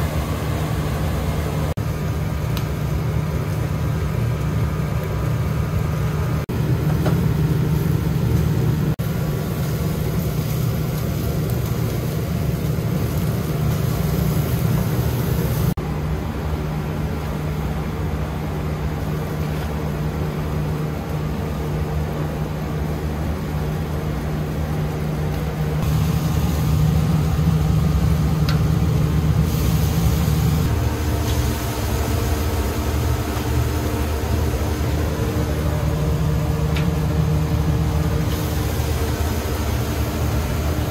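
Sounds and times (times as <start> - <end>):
fan motor humming: 0.0 - 40.9.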